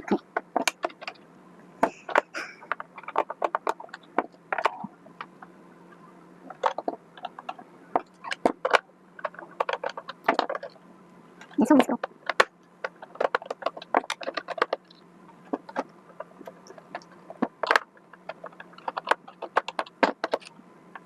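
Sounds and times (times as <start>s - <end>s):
plastic parts clicking and tapping: 0.1s - 1.2s, 1.8s - 5.5s, 6.5s - 10.8s, 11.4s - 21.0s.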